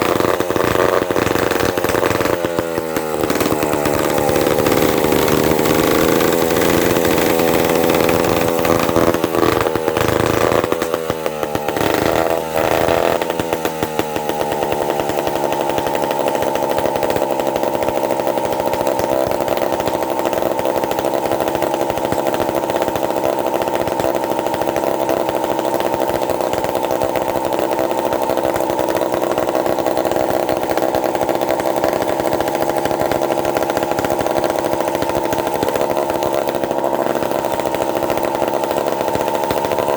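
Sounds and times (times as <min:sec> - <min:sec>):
two-stroke chainsaw engine running: 0:00.0 - 0:39.9.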